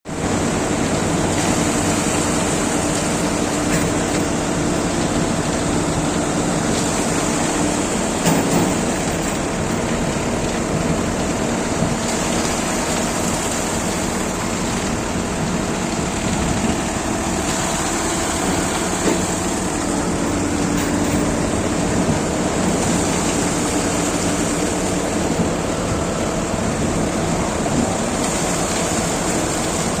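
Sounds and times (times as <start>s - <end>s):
heavy machinery engines running: 0.1s - 30.0s.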